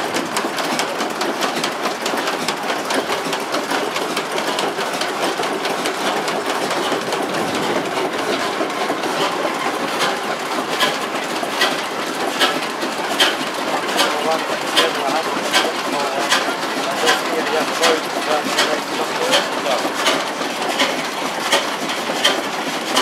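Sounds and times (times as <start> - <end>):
diesel engine clatter: 0.0 - 23.0
sharp engine knock: 0.2 - 23.0.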